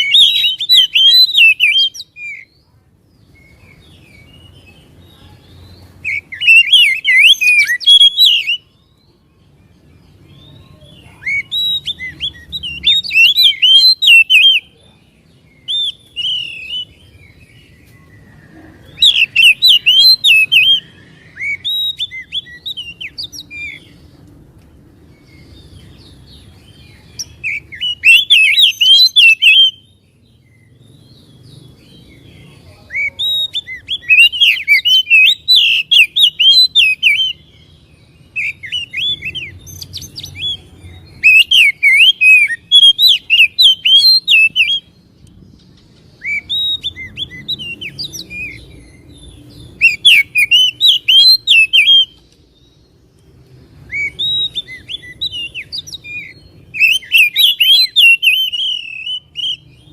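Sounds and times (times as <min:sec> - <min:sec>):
bird whistled song: 0:00.0 - 0:59.9.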